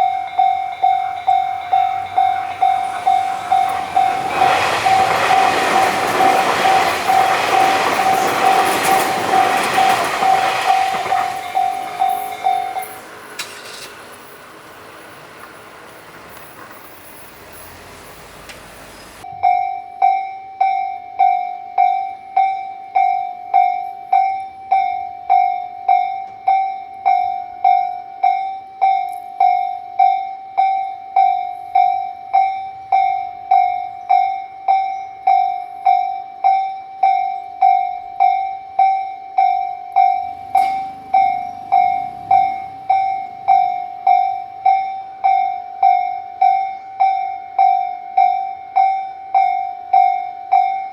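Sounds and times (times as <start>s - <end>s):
crossing bell clanging: 0.0s - 50.9s.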